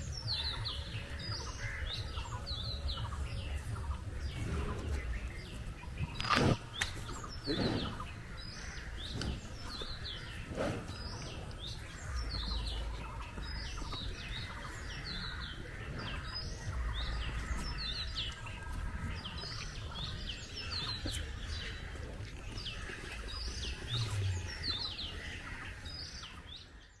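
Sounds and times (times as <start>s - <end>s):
low rumble: 0.0s - 26.7s
small birds chirping: 0.0s - 27.0s.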